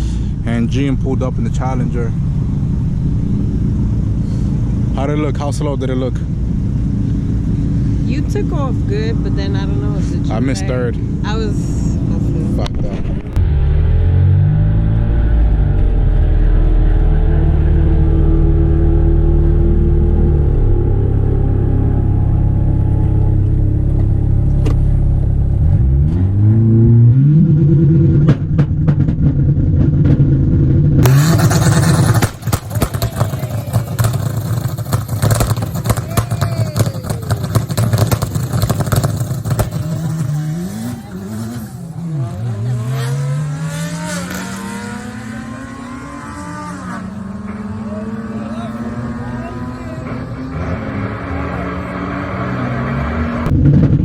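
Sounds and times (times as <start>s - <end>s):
engine revving: 0.0s - 54.0s
cars accelerating hard: 1.1s - 29.1s, 30.9s - 54.0s.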